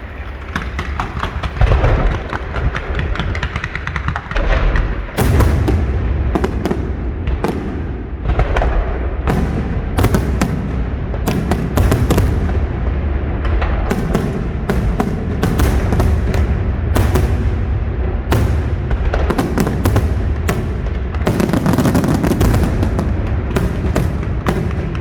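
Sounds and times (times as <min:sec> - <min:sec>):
fireworks bangs and crackles: 0:00.0 - 0:25.0
deep rumble of shell bursts: 0:00.2 - 0:25.0.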